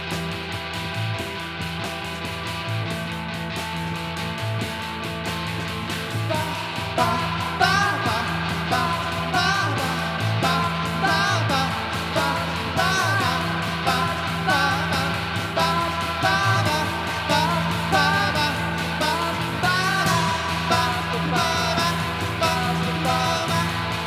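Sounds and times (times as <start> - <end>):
bass notes: 0.0 - 24.0
live band playing: 0.0 - 24.0.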